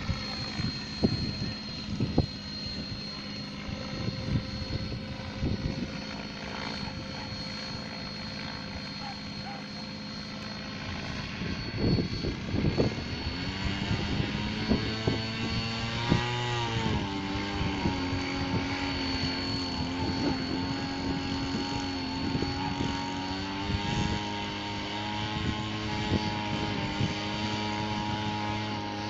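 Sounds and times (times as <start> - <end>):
model helicopter rotor hum: 0.0 - 29.0
thin high whine: 0.0 - 29.0.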